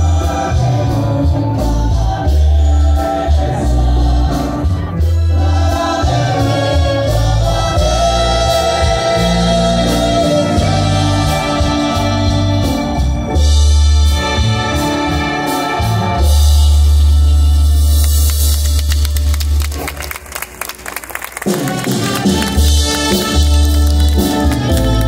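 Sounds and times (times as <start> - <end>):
orchestra playing: 0.0 - 25.0.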